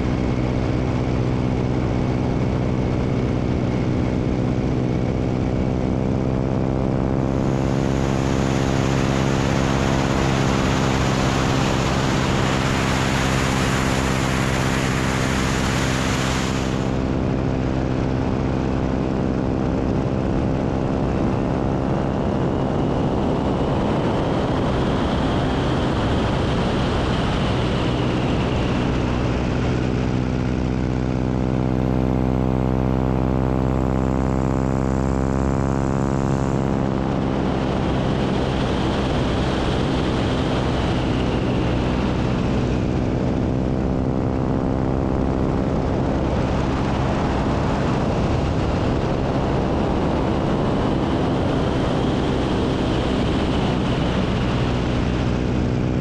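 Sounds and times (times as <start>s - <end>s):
propeller engine drone: 0.0s - 56.0s
wind rushing over microphone: 0.0s - 56.0s.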